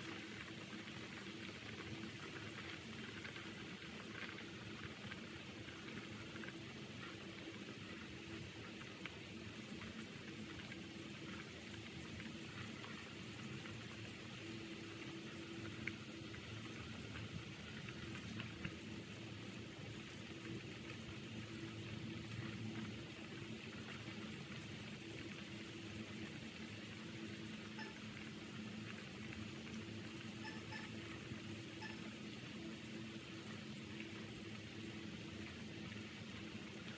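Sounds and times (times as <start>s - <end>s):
soup boiling and bubbling: 0.0s - 36.9s.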